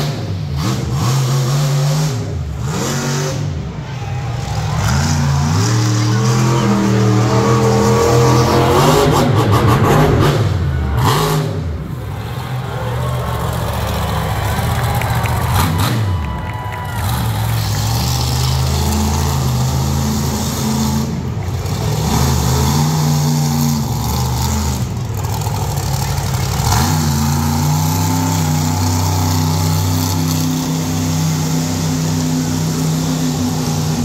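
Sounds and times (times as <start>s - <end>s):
monster truck engine revving: 0.0s - 34.0s.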